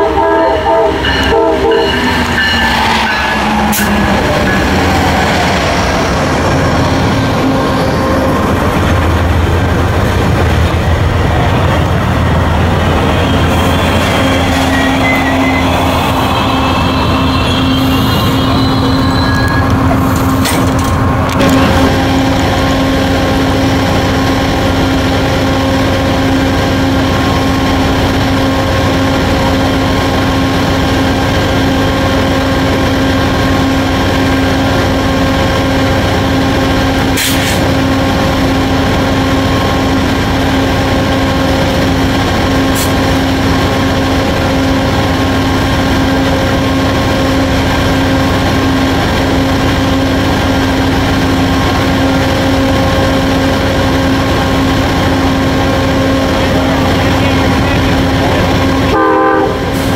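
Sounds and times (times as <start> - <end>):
diesel locomotives idling: 0.0 - 59.9.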